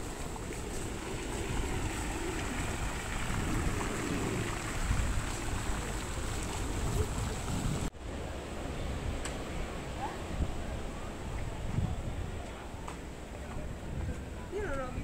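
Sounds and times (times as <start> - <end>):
outdoor noise: 0.0 - 15.0
wind rumbling on microphone: 0.0 - 15.0.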